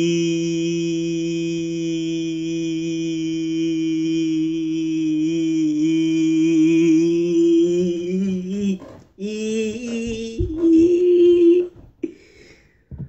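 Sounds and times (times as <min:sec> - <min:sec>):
young man holding a long note: 0:00.0 - 0:12.1.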